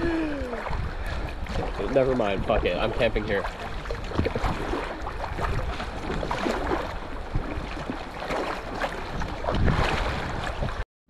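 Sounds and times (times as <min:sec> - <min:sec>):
water splashing around kayak: 0:00.0 - 0:10.8
wind buffeting microphone: 0:00.0 - 0:10.8.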